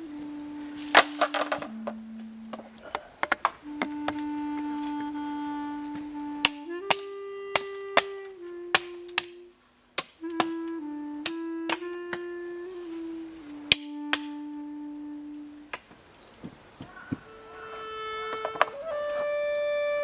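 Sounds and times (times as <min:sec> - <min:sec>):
woodwind melody in held notes: 0:00.0 - 0:16.0, 0:17.2 - 0:20.0
high buzz of insects: 0:00.0 - 0:20.0.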